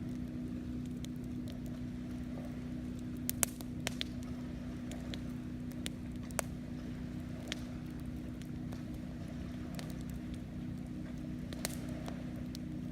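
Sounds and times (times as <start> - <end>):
campfire crackling and popping: 0.0 - 12.9
steady low hum: 0.0 - 12.9.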